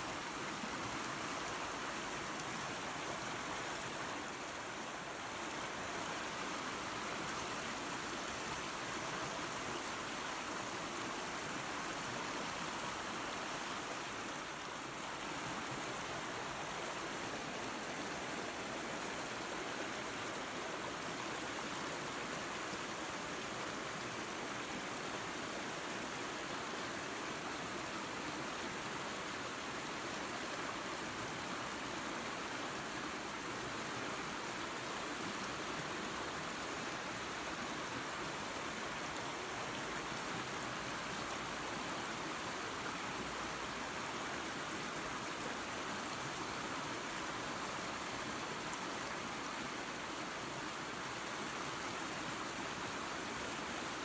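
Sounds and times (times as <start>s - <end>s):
waterfall and creek rushing: 0.0s - 54.0s.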